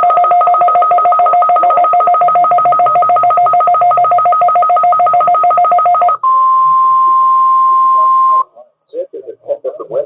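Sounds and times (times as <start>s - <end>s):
touch-tone signalling beeps: 0.0s - 8.5s.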